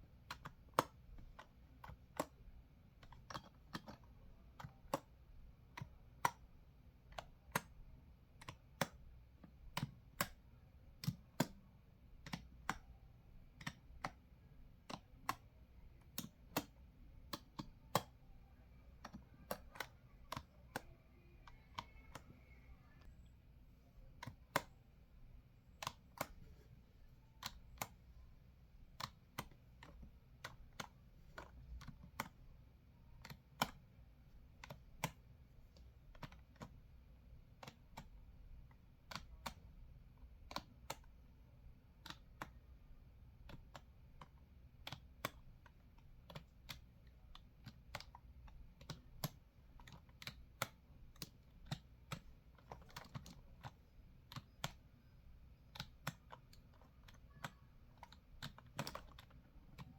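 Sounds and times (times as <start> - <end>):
typing on computer keyboard: 0.1 - 23.3, 28.8 - 59.9.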